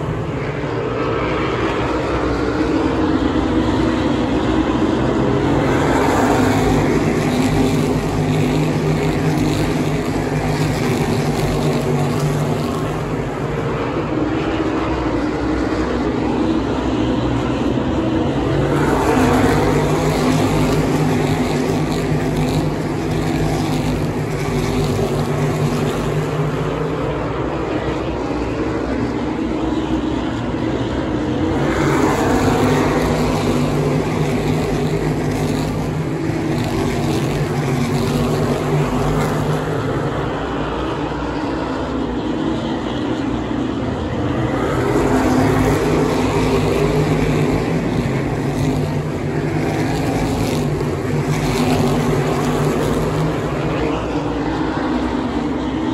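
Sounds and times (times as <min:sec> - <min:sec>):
race car engines droning: 0:00.0 - 0:55.9.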